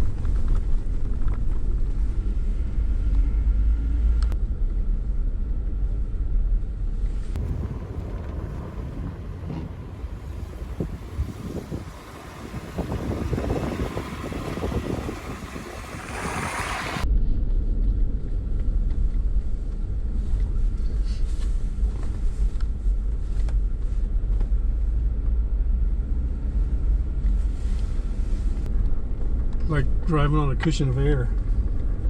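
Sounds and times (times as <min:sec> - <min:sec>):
low rumble of engine and tyres: 0:00.0 - 0:32.0
wind and road noise: 0:00.0 - 0:32.0.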